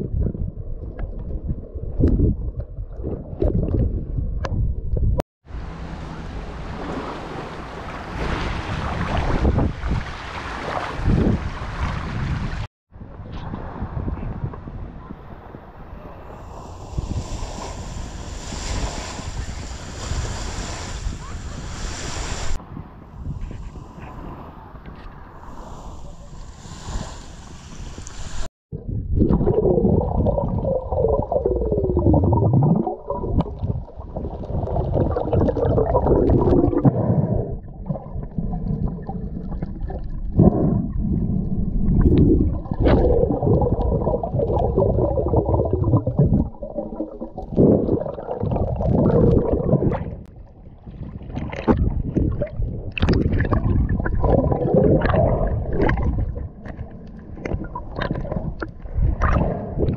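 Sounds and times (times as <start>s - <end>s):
muffled water sloshing and gurgling: 0.0s - 59.9s.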